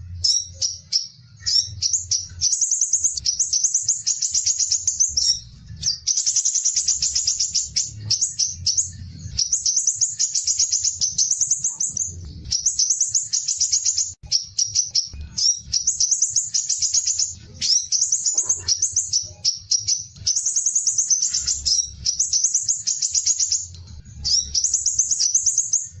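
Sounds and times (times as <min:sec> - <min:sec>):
faint low hum: 0:00.0 - 0:26.0
songbird trilling: 0:00.2 - 0:26.0.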